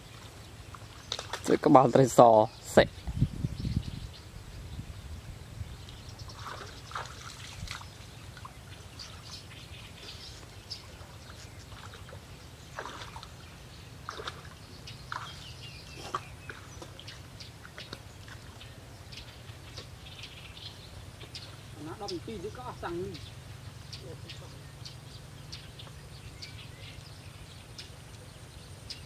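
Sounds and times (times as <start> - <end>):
faint water splashes: 0.0 - 2.8, 5.8 - 29.0
birds chirping: 0.0 - 29.0.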